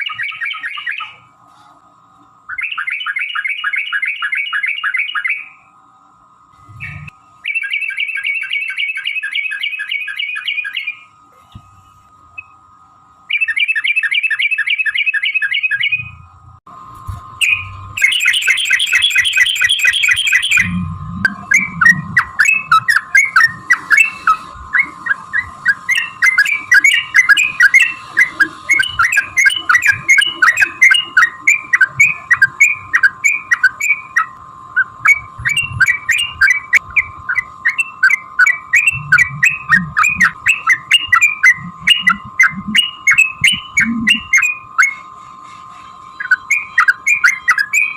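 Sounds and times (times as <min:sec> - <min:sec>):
bird singing trills: 0:00.0 - 0:01.3, 0:02.5 - 0:05.7, 0:06.7 - 0:11.2, 0:13.3 - 0:16.2, 0:17.4 - 0:47.9.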